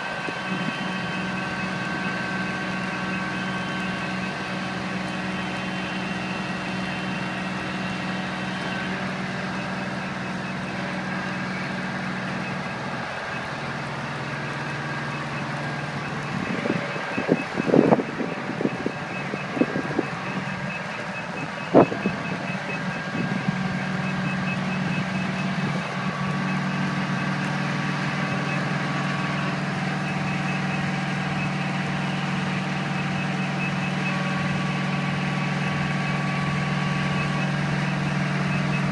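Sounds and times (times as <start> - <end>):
diesel engine running: 0.0 - 38.9
high-pitched beeping alarm: 0.0 - 38.9.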